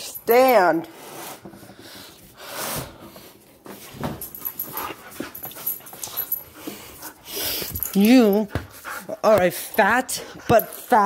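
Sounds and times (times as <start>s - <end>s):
dog panting and snuffling: 1.6s - 11.0s.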